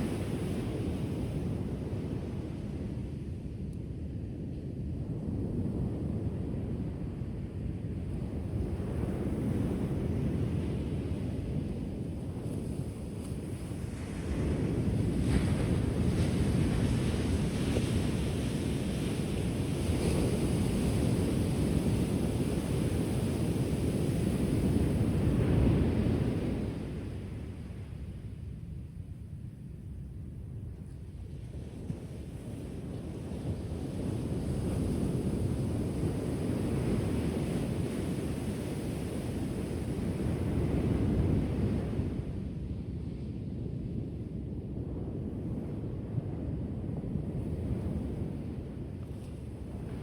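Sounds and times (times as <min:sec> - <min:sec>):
wind buffeting microphone: 0:00.0 - 0:50.0
ocean surf rumble: 0:05.8 - 0:30.7, 0:31.8 - 0:50.0.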